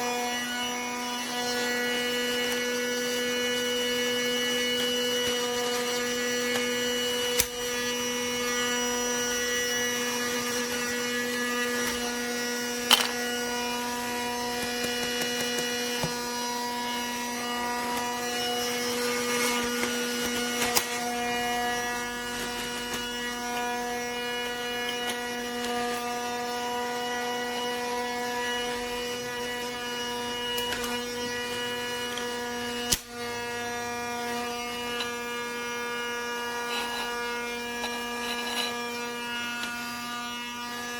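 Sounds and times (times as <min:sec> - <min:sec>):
small electric motor humming: 0:00.0 - 0:40.9.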